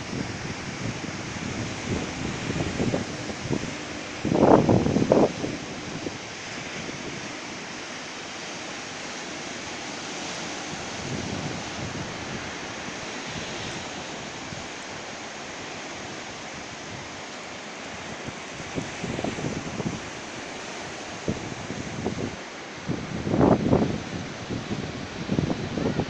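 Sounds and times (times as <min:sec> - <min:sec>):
wind on microphone: 0:00.0 - 0:09.2, 0:10.0 - 0:26.0
ocean surf washing on shore: 0:00.0 - 0:26.0.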